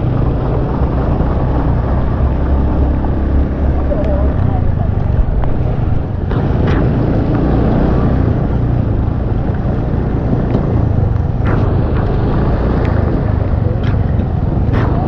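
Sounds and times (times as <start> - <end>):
engine running steadily: 0.0 - 15.0
wind noise on microphone: 0.0 - 15.0.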